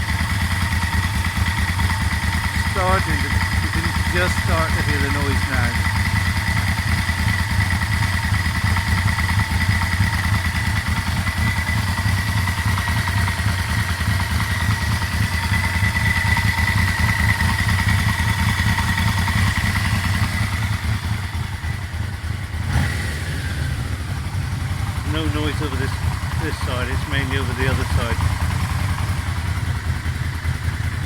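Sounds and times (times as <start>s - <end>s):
engine knocking: 0.0s - 31.0s
motorcycle engine idling: 0.0s - 31.0s.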